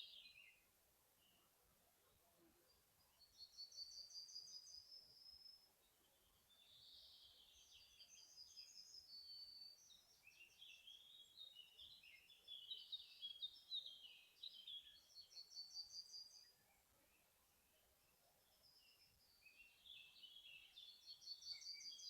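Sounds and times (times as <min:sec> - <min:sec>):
songbirds warbling and chirping: 0:00.0 - 0:01.8, 0:02.6 - 0:22.0.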